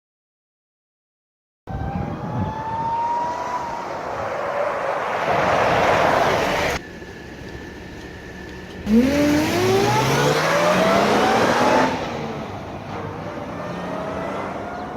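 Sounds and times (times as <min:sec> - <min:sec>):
engine and road noise: 0:01.7 - 0:14.9
supercharger whine: 0:01.8 - 0:14.8.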